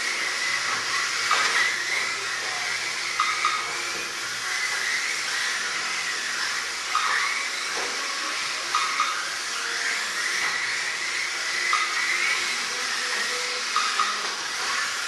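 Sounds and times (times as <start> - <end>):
electric toy car motors whining: 0.0 - 15.0.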